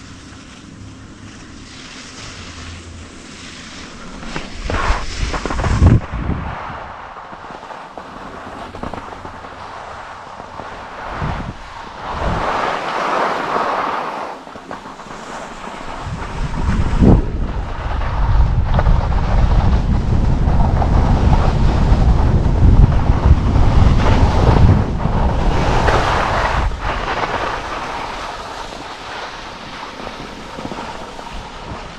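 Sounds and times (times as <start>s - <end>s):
skis sliding on snow: 0.0s - 31.9s
wind buffeting microphone: 3.9s - 31.9s.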